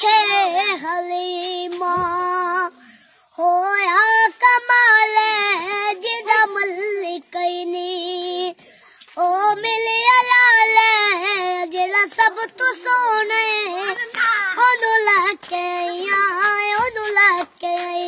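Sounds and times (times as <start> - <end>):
boy singing unaccompanied: 0.0 - 18.0.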